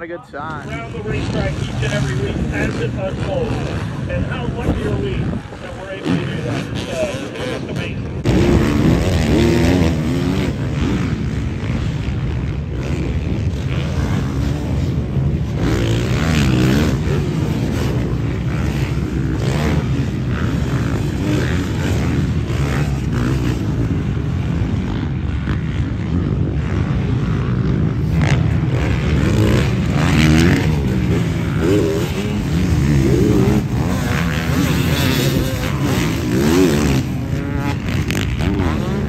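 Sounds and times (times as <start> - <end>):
motocross bikes revving: 0.0 - 39.0.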